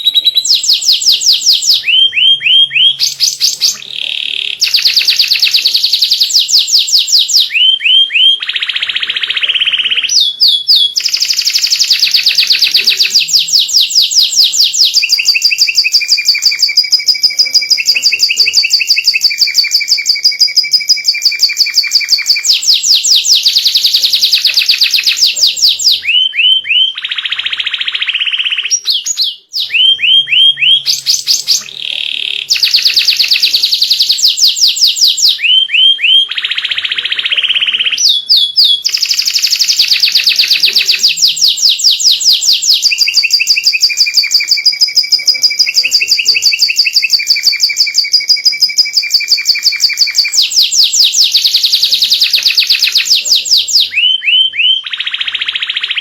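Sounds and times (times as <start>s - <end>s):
harsh buzzy bird phrase: 0.0s - 6.3s, 7.5s - 34.4s, 35.4s - 56.0s
canary singing trills: 0.0s - 56.0s.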